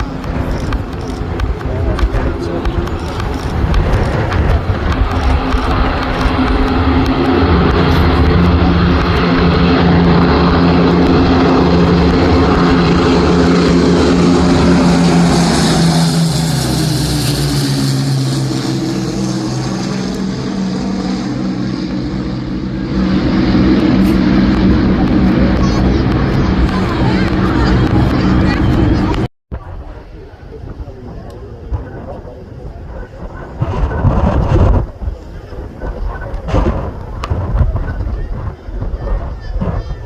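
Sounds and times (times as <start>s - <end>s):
propeller plane engines passing: 0.0s - 40.0s.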